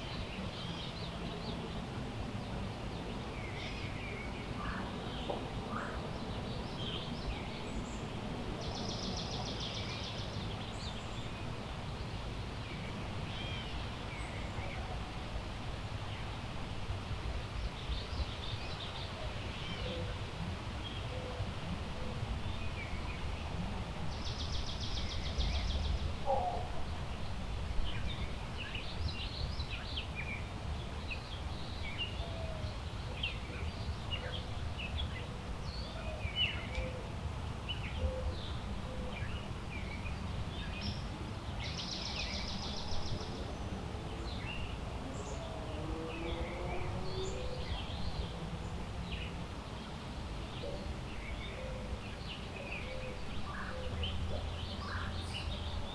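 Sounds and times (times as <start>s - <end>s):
low rumble of wind: 0.0s - 55.9s.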